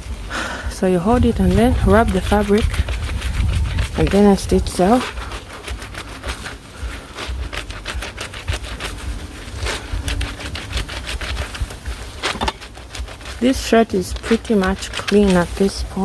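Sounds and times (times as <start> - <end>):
soapy fabric being scrubbed: 0.7 - 16.0.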